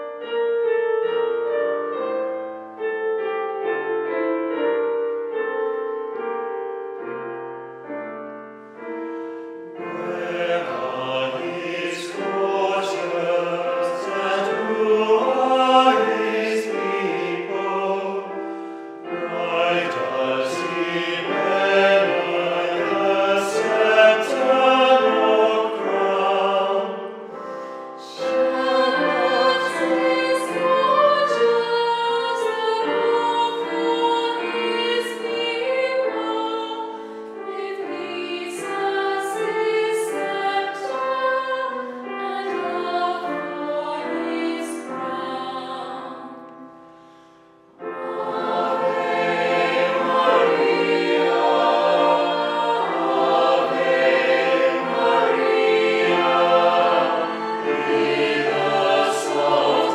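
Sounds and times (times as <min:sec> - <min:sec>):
choir singing in parts: 0:09.7 - 0:46.6, 0:47.8 - 0:59.9.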